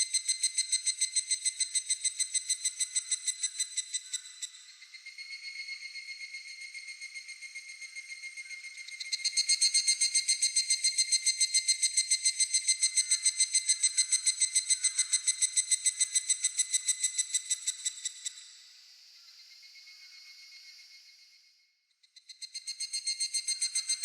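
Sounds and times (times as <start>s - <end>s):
cicada calling in fast pulses: 0.0s - 21.4s, 22.1s - 24.0s
faint pulsed insect call: 0.0s - 24.0s.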